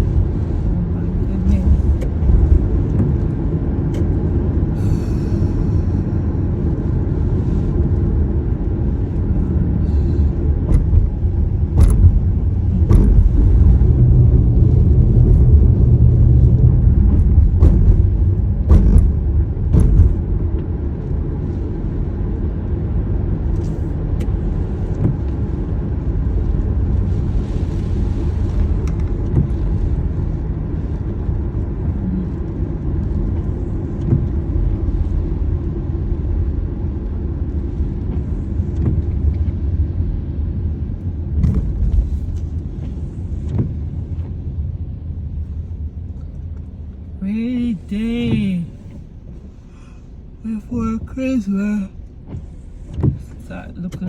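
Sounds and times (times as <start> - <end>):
car rumbling on road: 0.0 - 54.0.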